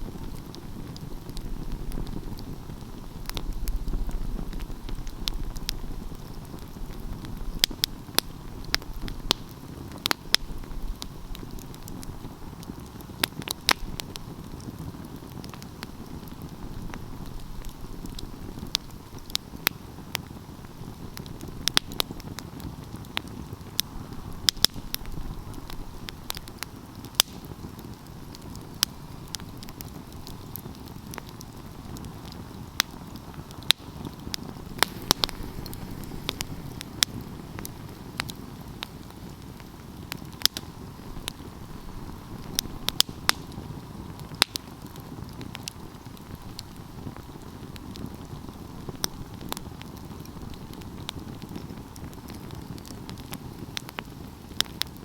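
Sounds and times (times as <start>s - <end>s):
burning wood crackling and popping: 0.0s - 55.0s
rush of flames: 0.0s - 55.0s.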